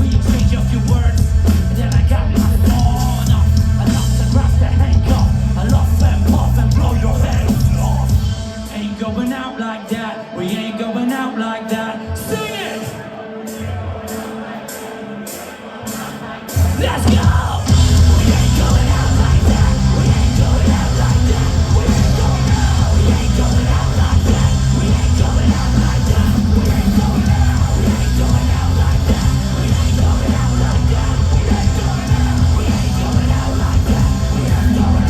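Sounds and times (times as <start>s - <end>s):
heavy rock band playing loudly: 0.0s - 35.0s.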